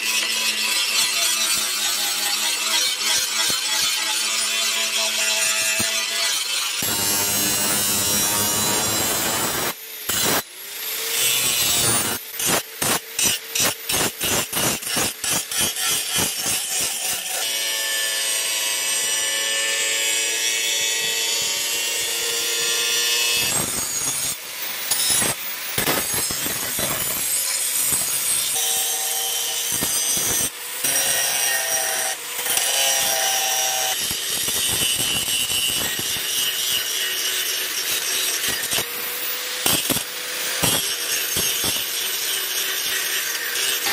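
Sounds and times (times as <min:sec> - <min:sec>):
angle grinder grinding steel: 0:00.0 - 0:43.9.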